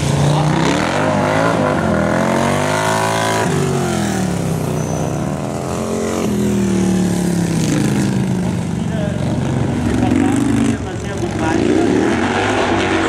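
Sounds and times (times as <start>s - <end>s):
motorcycle engines racing: 0.0s - 13.0s.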